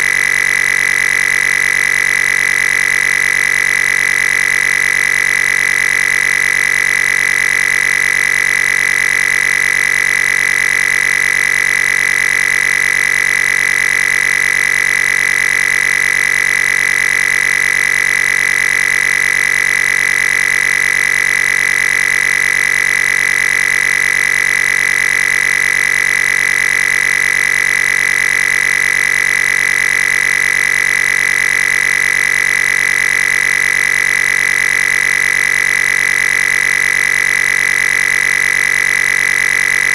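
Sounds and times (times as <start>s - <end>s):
electronic buzz with high tone: 0.0s - 39.9s.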